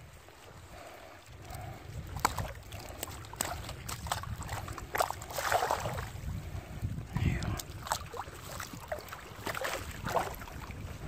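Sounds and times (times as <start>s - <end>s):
water splashing and sloshing: 0.0s - 11.0s
wind rumble on microphone: 0.0s - 11.0s.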